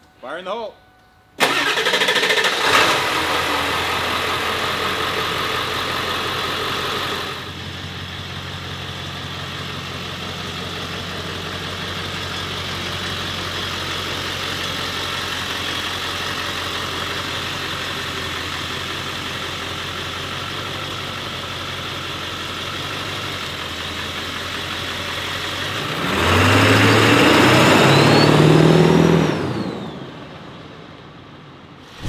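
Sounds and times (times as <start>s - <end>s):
diesel truck engine running: 1.4s - 28.1s.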